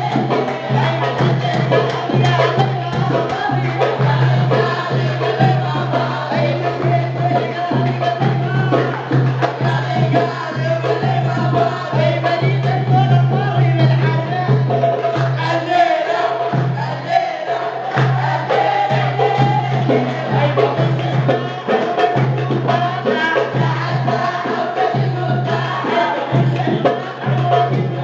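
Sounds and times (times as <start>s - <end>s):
hand drums beating: 0.0s - 28.0s
men's vocal group singing: 0.0s - 28.0s.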